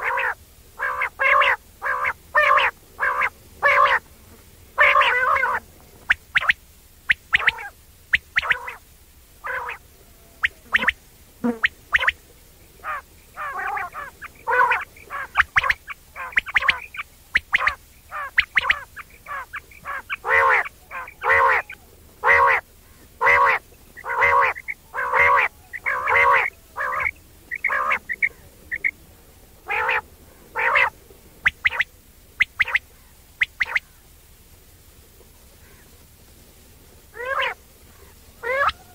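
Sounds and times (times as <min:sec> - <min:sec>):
quail calling: 0:00.0 - 0:04.1, 0:04.7 - 0:34.1, 0:37.1 - 0:38.9.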